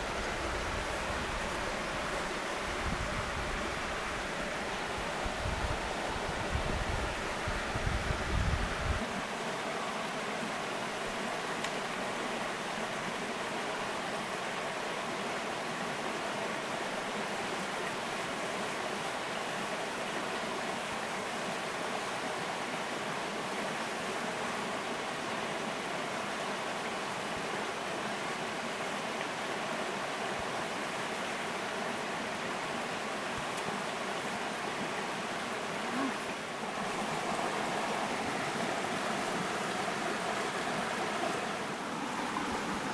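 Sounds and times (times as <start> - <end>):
creek water flowing: 0.0 - 42.9.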